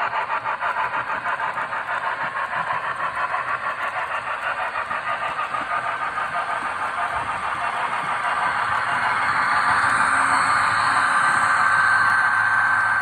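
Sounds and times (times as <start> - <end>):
model steam locomotive chuffing: 0.0 - 13.0.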